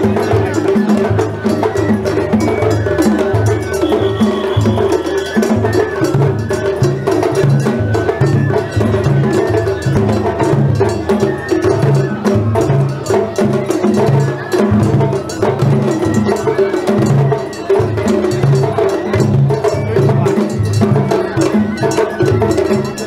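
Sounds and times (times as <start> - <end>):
taiko drums beating: 0.0 - 23.0.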